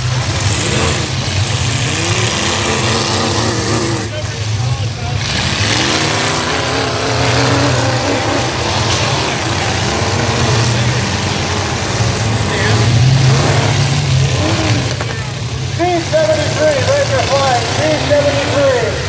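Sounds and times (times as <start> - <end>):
truck engines revving: 0.0 - 19.0.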